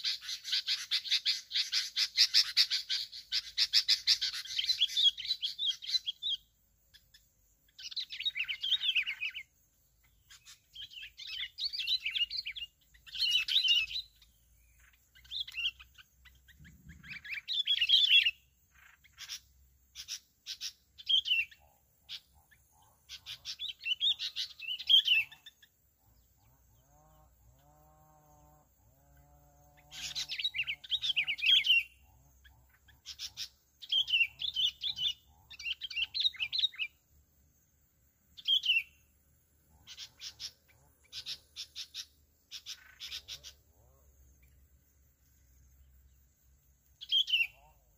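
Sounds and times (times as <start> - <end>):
bulbuls singing: 0.0 - 37.1, 38.3 - 47.9.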